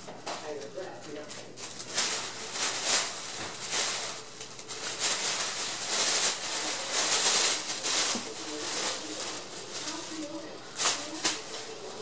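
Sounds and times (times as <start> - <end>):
foil paper crinkling: 0.1 - 12.0.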